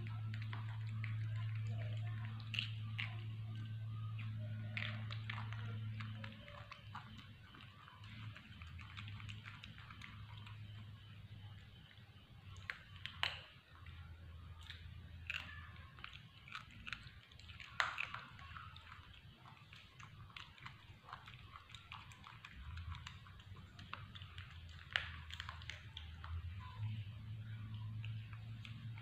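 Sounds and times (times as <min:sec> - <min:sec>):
low steady hum: 0:00.0 - 0:29.0
monkey chewing crunchy food: 0:00.0 - 0:29.0.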